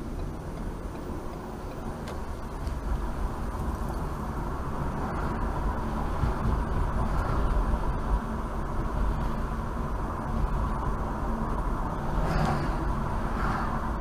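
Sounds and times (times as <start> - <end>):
car interior road noise: 0.0 - 14.0.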